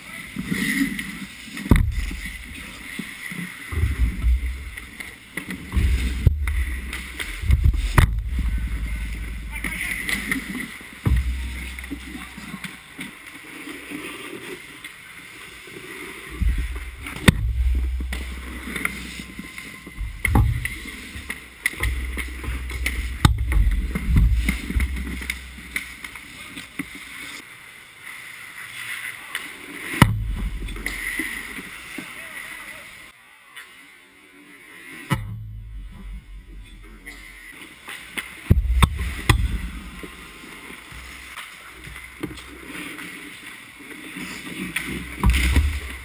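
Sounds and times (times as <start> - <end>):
skates scraping ice: 0.0 - 35.1, 36.1 - 46.0.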